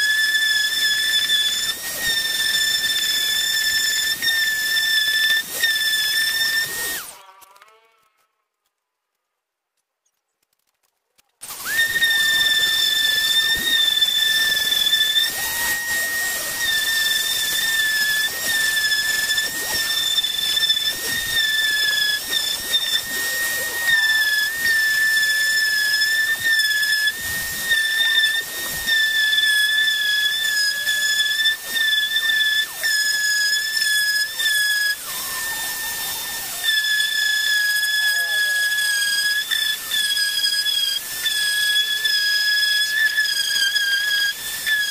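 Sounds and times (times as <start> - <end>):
orbital sander whining on plywood: 0.0 - 8.0, 11.4 - 44.9.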